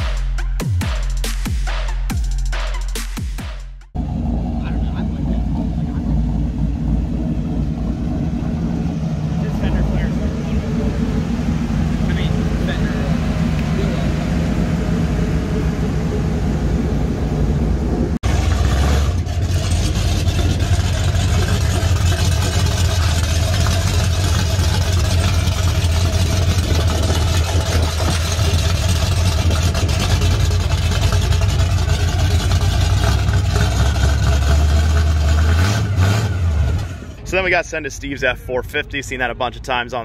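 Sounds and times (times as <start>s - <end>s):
truck engine running deep: 4.0s - 40.0s.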